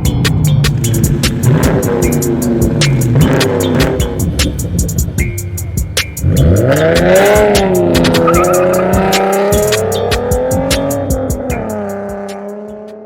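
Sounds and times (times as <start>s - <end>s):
car engine revving: 0.0s - 13.0s
music with fast ticking beat: 0.0s - 13.0s.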